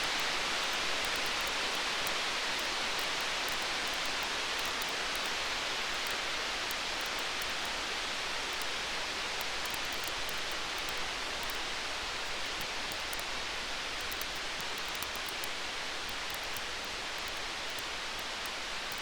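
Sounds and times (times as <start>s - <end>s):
campfire hissing and crackling: 0.1s - 19.0s.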